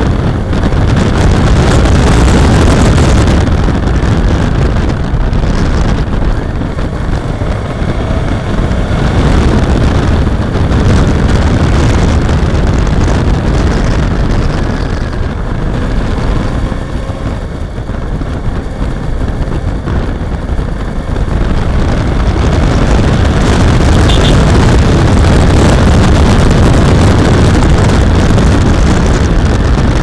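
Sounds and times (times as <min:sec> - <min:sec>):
motorcycle engine: 0:00.0 - 0:30.0
wind rushing on microphone: 0:00.0 - 0:30.0.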